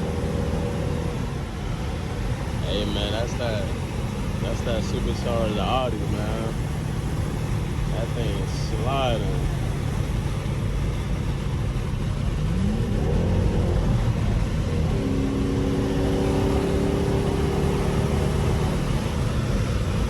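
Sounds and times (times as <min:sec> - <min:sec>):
loud exhaust droning: 0:00.0 - 0:20.0.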